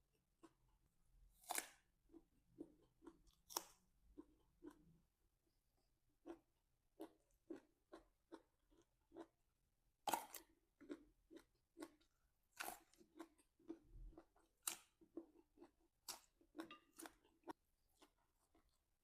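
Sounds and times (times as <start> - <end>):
chewing crunchy raw vegetables: 0.3 - 4.9, 6.2 - 19.0.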